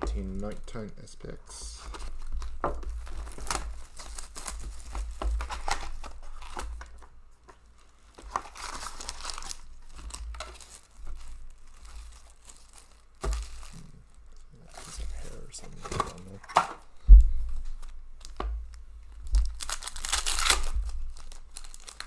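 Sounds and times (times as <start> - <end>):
foil packs crinkling: 0.2 - 22.0
plastic shrink-wrap crinkling and tearing: 0.4 - 16.8, 17.5 - 22.0.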